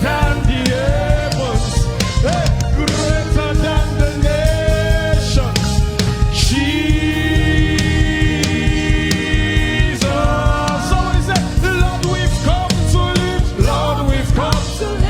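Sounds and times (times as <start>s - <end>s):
band with heavy bass: 0.0s - 15.0s
drum strikes: 0.0s - 15.0s
voices singing gospel: 0.0s - 15.0s.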